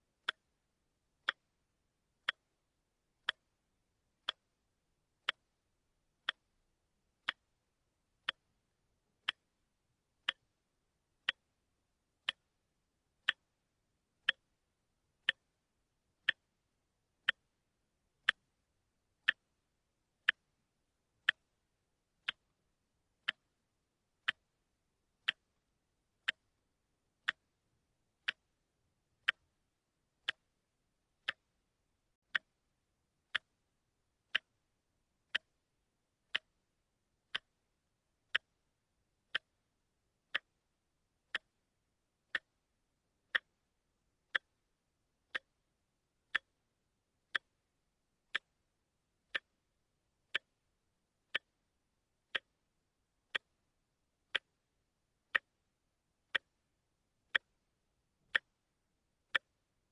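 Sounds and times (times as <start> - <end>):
watch ticking: 0.0 - 30.6, 31.2 - 32.7, 33.3 - 59.9.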